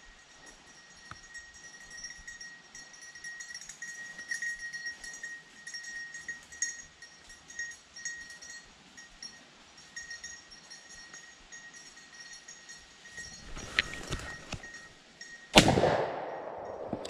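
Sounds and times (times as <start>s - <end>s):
dog collar bell jingling: 0.0s - 15.6s.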